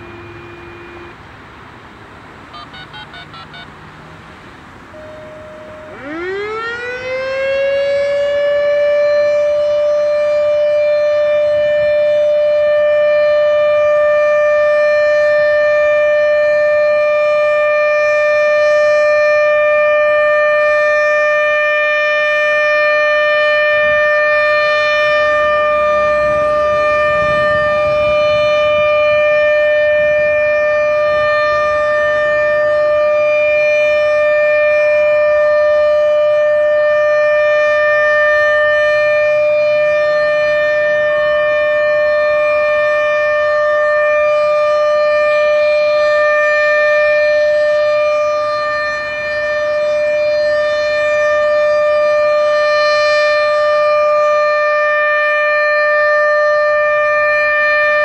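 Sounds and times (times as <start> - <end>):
steady siren tone: 0.0 - 1.2, 2.5 - 4.2, 4.8 - 58.0.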